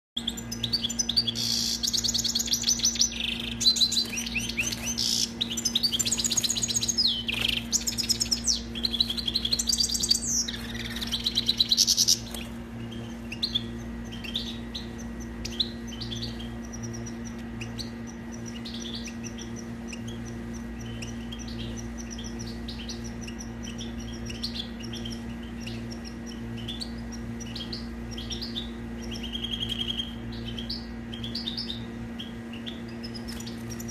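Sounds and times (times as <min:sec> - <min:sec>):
finch singing: 0:00.2 - 0:33.9
steady low hum: 0:00.2 - 0:33.9.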